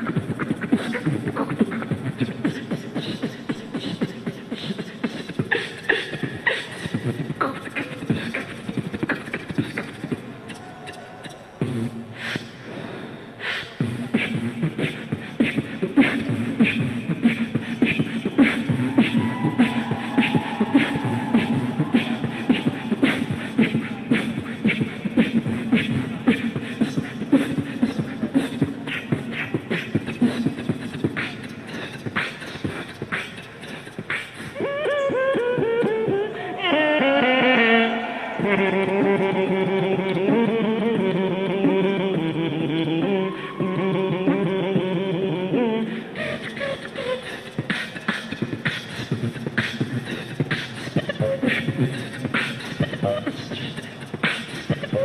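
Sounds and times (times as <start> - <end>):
beatboxing drum hits: 0.0 - 36.2, 46.2 - 55.0
gliding pitched vocal sound: 0.0 - 55.0.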